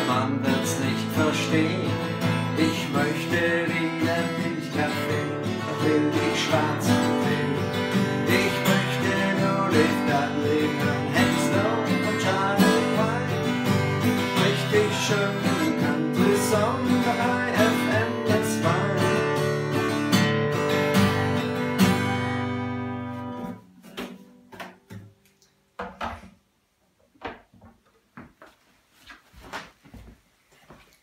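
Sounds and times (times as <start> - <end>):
acoustic guitar strumming: 0.0 - 25.1.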